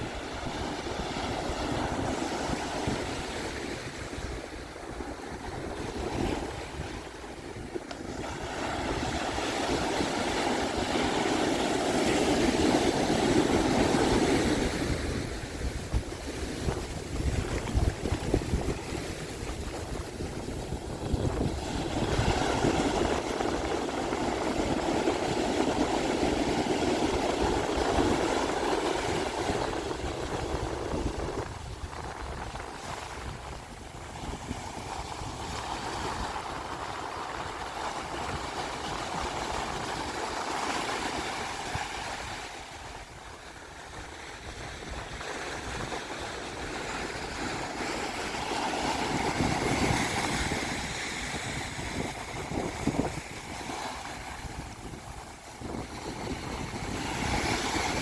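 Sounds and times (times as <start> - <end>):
surf washing onto beach: 0.0 - 58.0
wind: 0.0 - 58.0.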